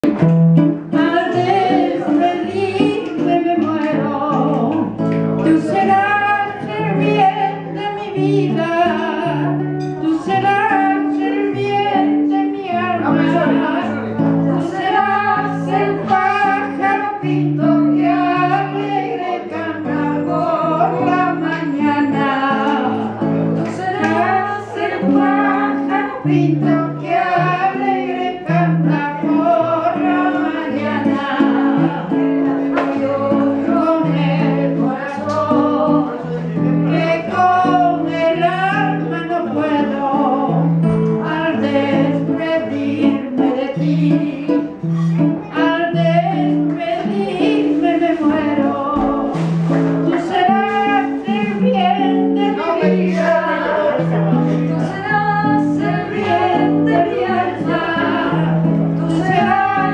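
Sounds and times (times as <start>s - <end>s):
instrumental accompaniment: 0.0s - 59.9s
woman singing into a microphone: 0.0s - 59.9s.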